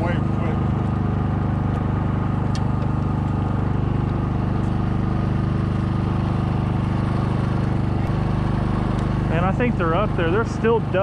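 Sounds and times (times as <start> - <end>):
generator engine droning: 0.0 - 11.0.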